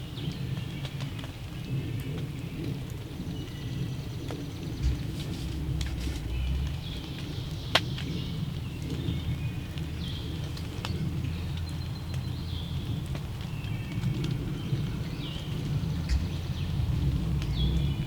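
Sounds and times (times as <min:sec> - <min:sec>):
small birds chirping: 0:00.0 - 0:18.0
steady low rumble: 0:01.7 - 0:18.0.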